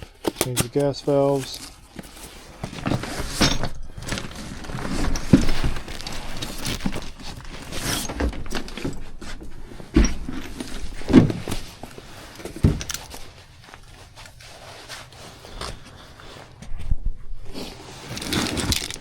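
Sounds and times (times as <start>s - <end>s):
tools and parts being handled: 0.0s - 19.0s.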